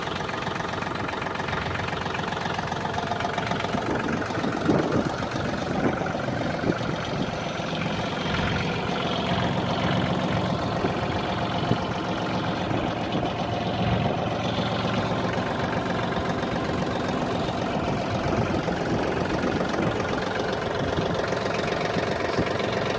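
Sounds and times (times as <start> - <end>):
tractor diesel engine idling: 0.0 - 22.9.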